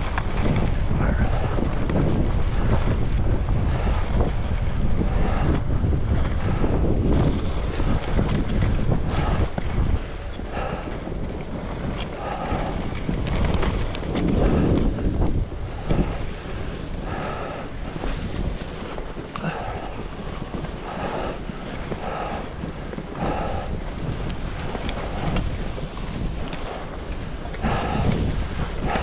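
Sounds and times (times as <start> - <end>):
skis carving over snow: 0.0 - 29.0
wind buffeting microphone: 0.0 - 29.0.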